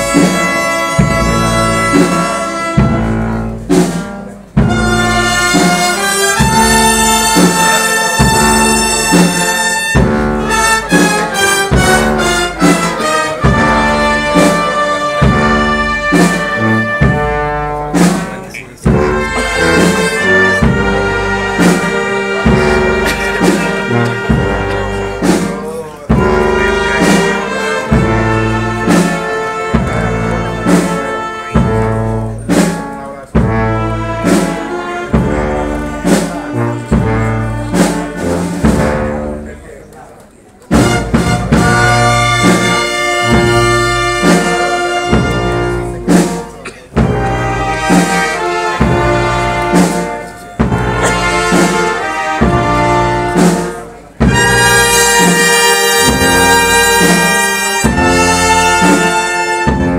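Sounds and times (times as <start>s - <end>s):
drum strikes: 0.0s - 39.8s, 40.6s - 59.9s
brass band music: 0.0s - 59.9s.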